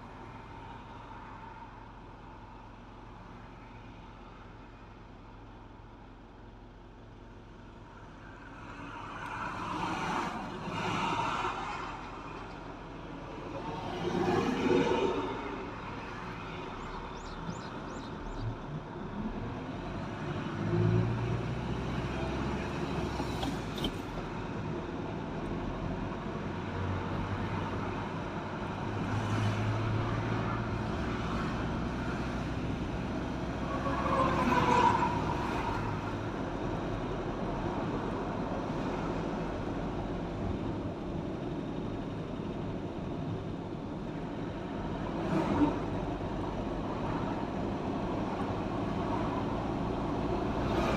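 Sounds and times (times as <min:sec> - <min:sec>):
vehicle engine hum: 0:00.0 - 0:50.9
tyre and road noise: 0:08.2 - 0:50.9.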